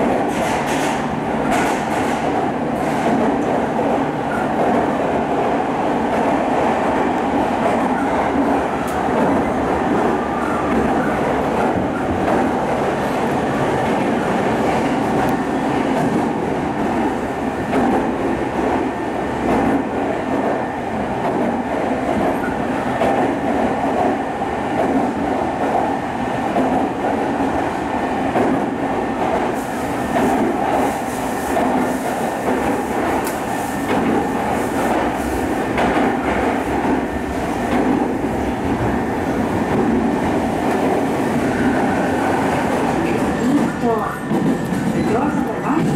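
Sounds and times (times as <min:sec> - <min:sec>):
train rumbling: 0:00.0 - 0:45.9.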